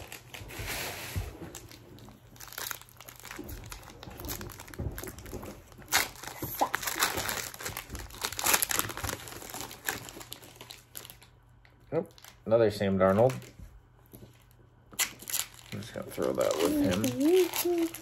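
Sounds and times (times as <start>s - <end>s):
foil wrappers crinkling: 0.0s - 11.4s, 12.0s - 12.5s, 14.2s - 18.0s.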